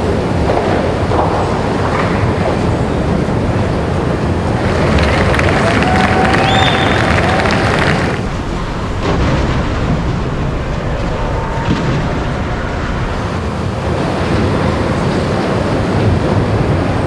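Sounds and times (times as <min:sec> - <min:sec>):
low rumble with hiss: 0:00.0 - 0:17.0
crowd murmur: 0:02.4 - 0:16.4.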